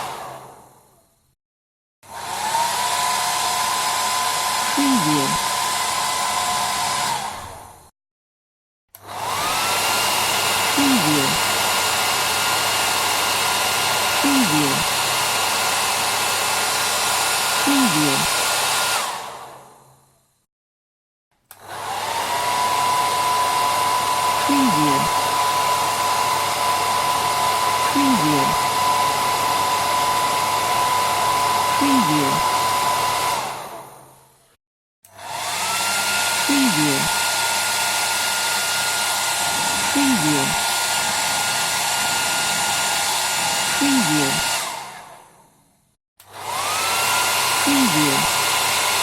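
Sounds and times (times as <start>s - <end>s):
hairdryer blowing with a whine: 0.0s - 0.7s, 2.1s - 7.8s, 9.0s - 19.8s, 21.5s - 34.2s, 35.1s - 45.4s, 46.2s - 49.0s.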